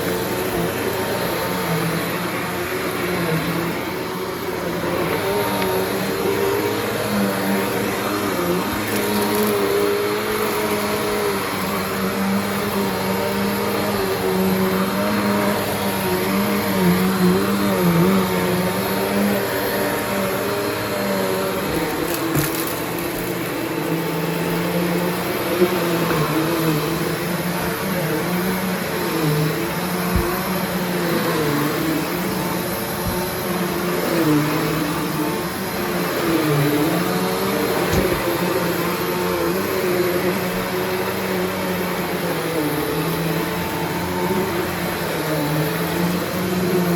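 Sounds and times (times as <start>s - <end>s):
vacuum cleaner motor hum: 0.0s - 46.9s.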